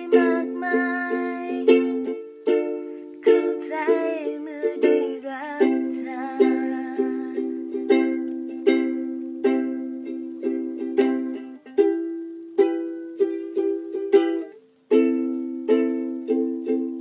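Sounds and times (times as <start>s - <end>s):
acoustic string chords strummed: 0.0s - 17.0s.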